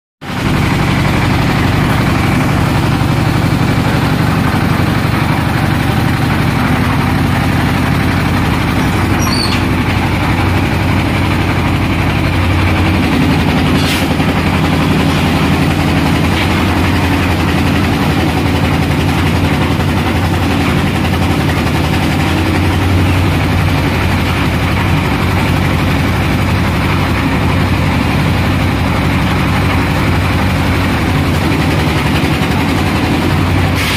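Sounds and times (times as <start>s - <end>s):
concrete mixer diesel engine running: 0.2s - 33.9s.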